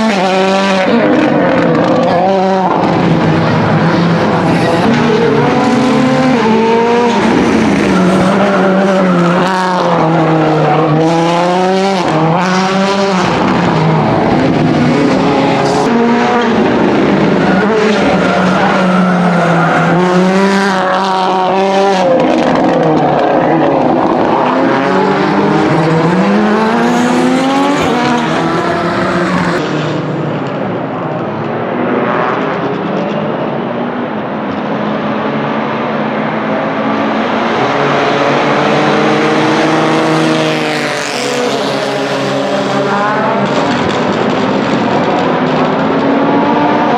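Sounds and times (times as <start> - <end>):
rally car engine revving: 0.0 - 46.9.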